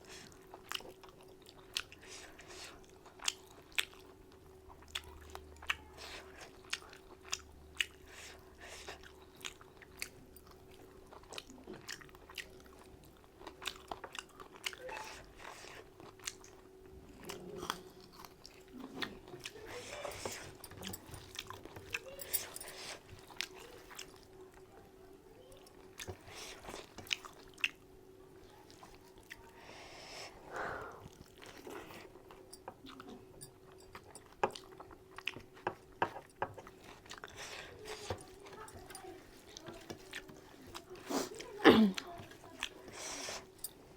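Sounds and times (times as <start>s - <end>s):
person chewing food: 0.0s - 24.6s, 25.4s - 43.9s.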